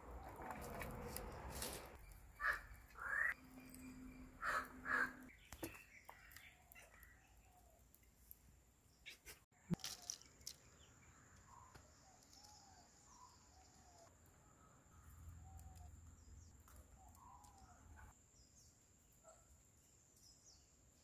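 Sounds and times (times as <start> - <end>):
distant birds chirping: 0.1 - 7.8, 8.9 - 19.4.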